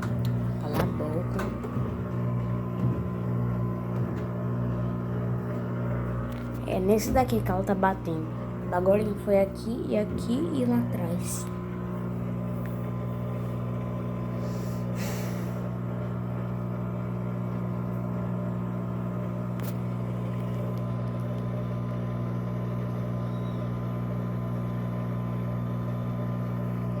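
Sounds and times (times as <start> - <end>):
washing machine humming: 0.0 - 27.0.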